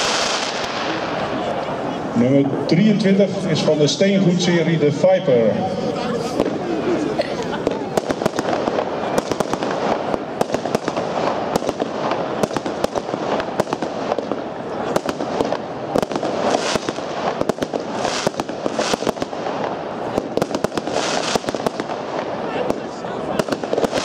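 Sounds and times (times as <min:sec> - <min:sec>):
hissing firework bursts: 0:00.0 - 0:02.1, 0:06.1 - 0:24.0
fireworks launching and bursting: 0:00.0 - 0:04.8, 0:06.2 - 0:24.0.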